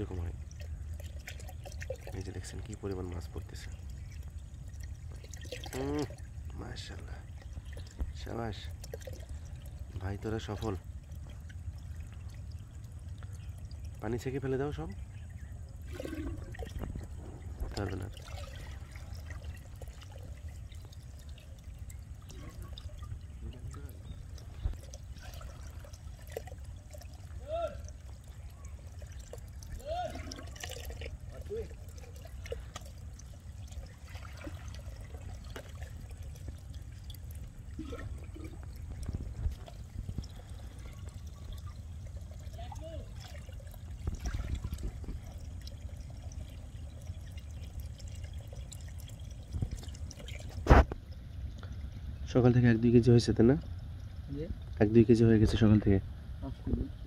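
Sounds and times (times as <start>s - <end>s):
small water splashes: 0.0s - 57.0s
water pouring and trickling: 0.0s - 57.0s.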